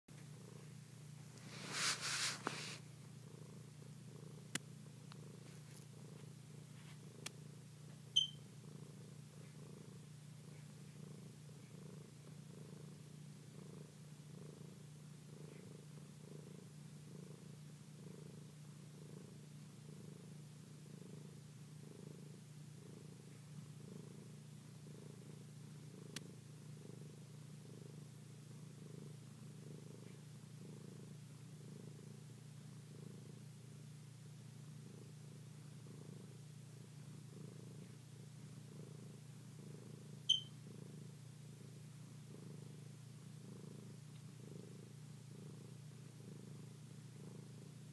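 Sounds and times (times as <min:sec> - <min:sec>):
cat purring: 0:00.1 - 0:47.9.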